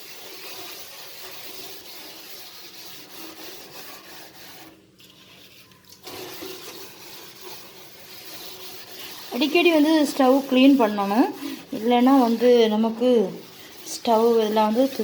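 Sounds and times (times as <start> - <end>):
scrubbing stove parts: 0.0 - 15.0.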